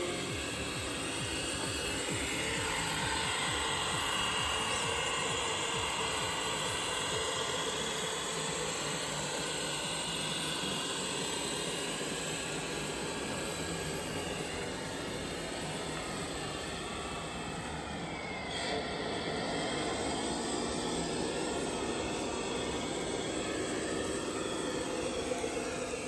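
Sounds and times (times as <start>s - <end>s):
toy truck mechanical running noise: 0.0s - 26.0s.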